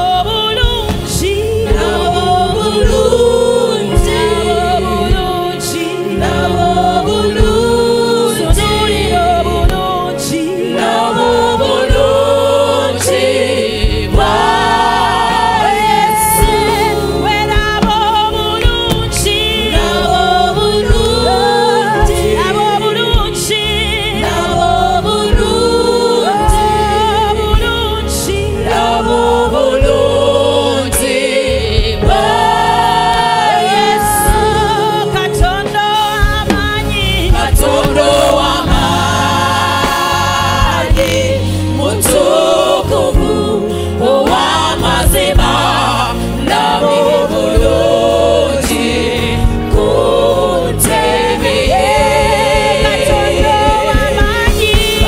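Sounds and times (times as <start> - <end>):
instrumental backing with bass: 0.0 - 55.0
women singing into microphones: 0.0 - 55.0.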